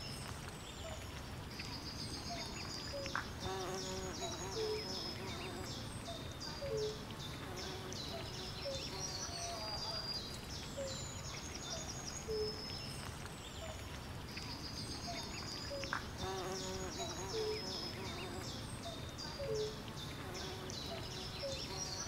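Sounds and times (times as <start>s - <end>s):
low steady background noise: 0.0s - 22.0s.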